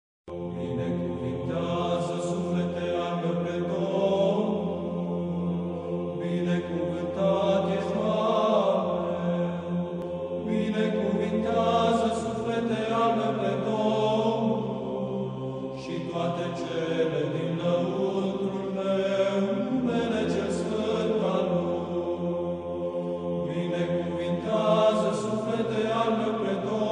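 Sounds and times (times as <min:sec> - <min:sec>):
choir of low voices chanting: 0:00.3 - 0:26.9.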